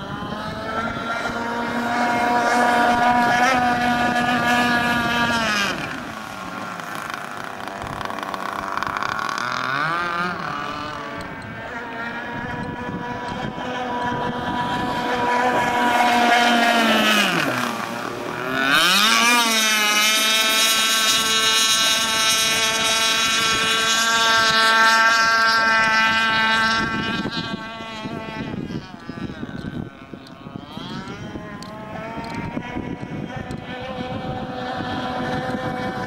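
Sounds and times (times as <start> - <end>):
model boat engine whining: 0.0 - 36.0.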